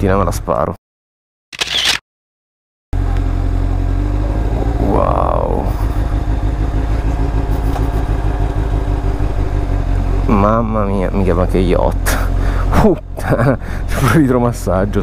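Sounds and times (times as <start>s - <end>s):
motorcycle engine running: 3.0s - 15.0s.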